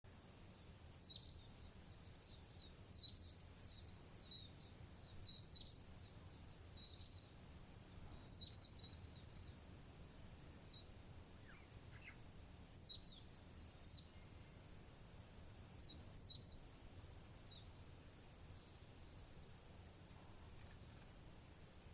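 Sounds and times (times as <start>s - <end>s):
songbirds chirping: 0.0s - 21.9s
faint low rumble: 0.1s - 21.9s.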